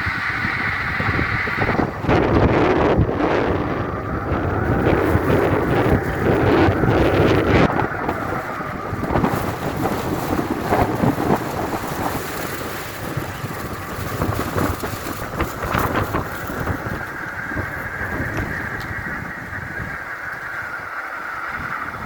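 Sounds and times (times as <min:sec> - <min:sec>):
strong wind gusts: 0:00.0 - 0:22.0.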